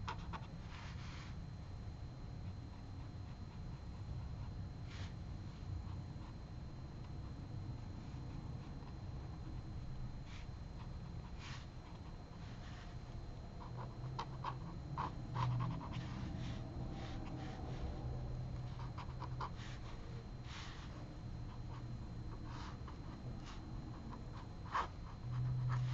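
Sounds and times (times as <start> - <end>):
pen nib scratching on paper: 0.0 - 1.4, 2.4 - 5.2, 5.8 - 25.9
steady low hum: 0.0 - 25.9.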